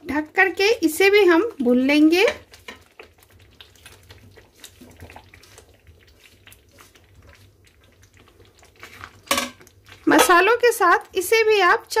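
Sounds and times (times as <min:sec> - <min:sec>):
potatoes plopping into gravy: 0:01.4 - 0:11.9.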